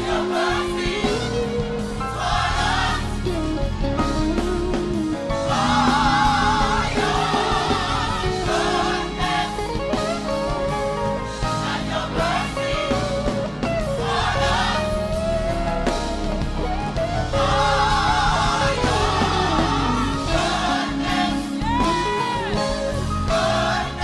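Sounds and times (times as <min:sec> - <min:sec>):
gospel choir singing: 0:00.0 - 0:04.5, 0:05.1 - 0:24.0
band accompaniment: 0:00.0 - 0:24.0.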